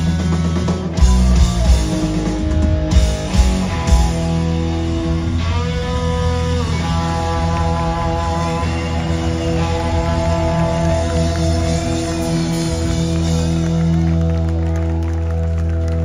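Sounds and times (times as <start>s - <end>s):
electric guitars and bass chord: 0.0s - 16.0s.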